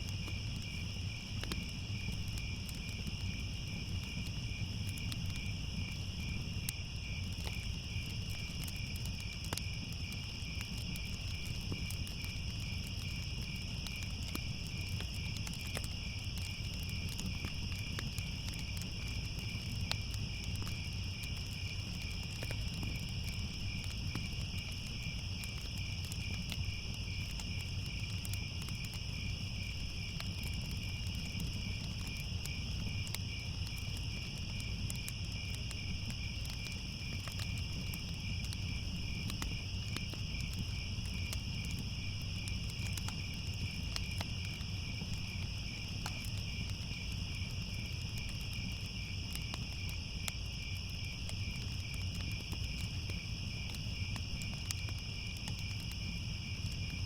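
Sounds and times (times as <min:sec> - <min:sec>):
crickets chirping: 0:00.0 - 0:57.0
faint crackles: 0:00.0 - 0:57.0.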